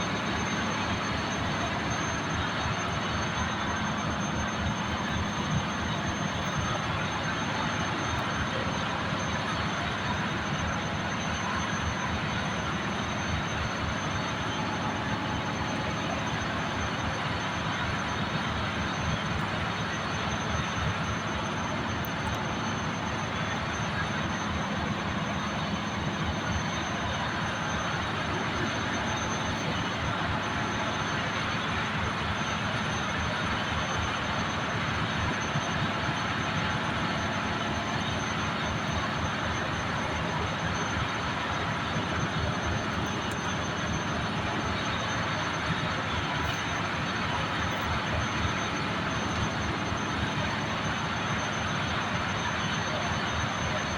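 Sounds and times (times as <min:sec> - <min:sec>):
engine room machinery drone: 0:00.0 - 0:53.9
high steady whine: 0:00.0 - 0:53.9.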